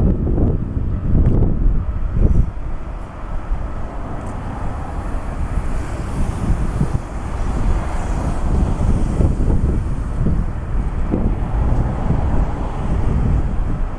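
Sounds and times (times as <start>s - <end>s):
steady low rumble: 0.0s - 13.9s
wind buffeting microphone: 0.0s - 13.9s.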